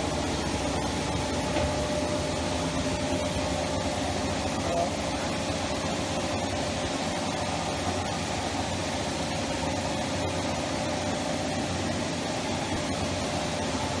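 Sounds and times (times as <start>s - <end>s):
machine motor humming and whining: 0.0s - 14.0s.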